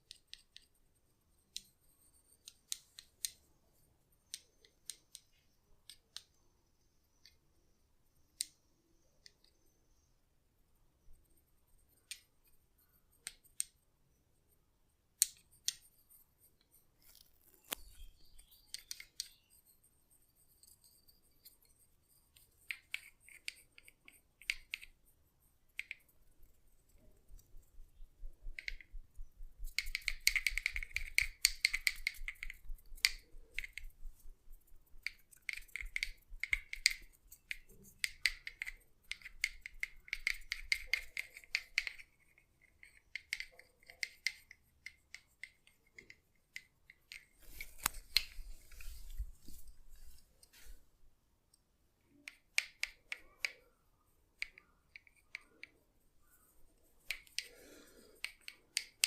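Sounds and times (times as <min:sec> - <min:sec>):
sharp clicks and snips: 0:00.0 - 0:00.8, 0:01.5 - 0:03.4, 0:04.2 - 0:06.4, 0:11.9 - 0:13.8, 0:15.2 - 0:19.8, 0:20.6 - 0:49.7, 0:51.5 - 0:53.8, 0:54.4 - 0:59.0.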